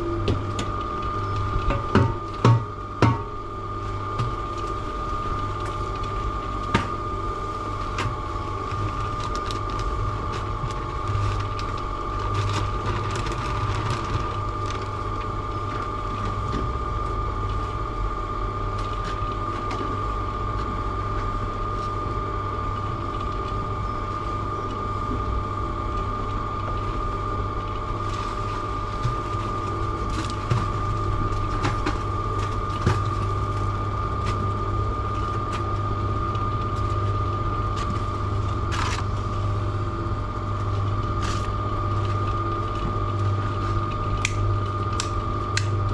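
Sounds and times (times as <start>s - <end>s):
cement mixer motor humming: 0.0s - 45.9s
high whine: 0.0s - 45.9s.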